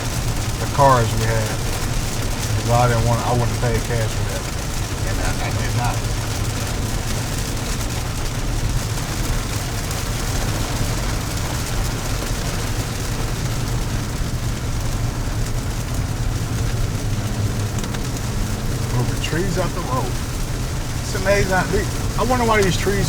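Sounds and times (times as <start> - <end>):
car engine rumble inside cabin: 0.0 - 23.0.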